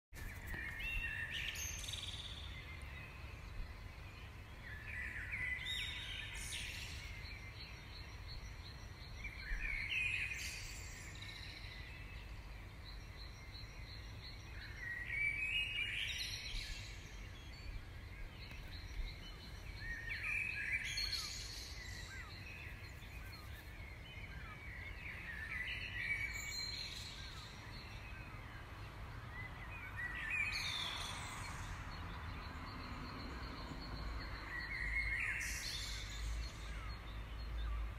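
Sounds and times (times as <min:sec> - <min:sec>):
songbird singing: 0:00.2 - 0:37.9.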